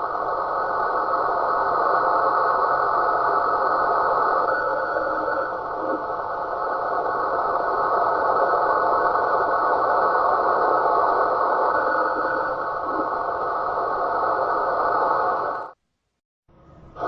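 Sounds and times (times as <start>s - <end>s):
radio receiver hiss: 0.0s - 17.0s.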